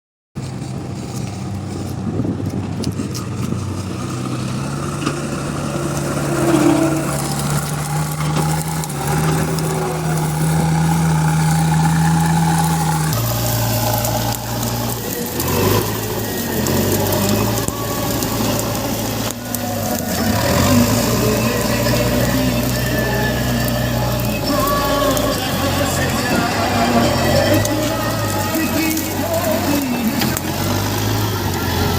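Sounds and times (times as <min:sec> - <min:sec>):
diesel engine running: 0:00.4 - 0:31.9.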